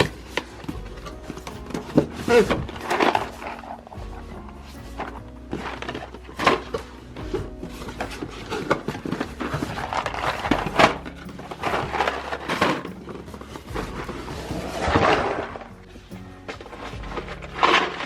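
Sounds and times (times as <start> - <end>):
groceries knocking and clattering: 0.0 - 18.0
noisy handling of containers: 0.0 - 18.0.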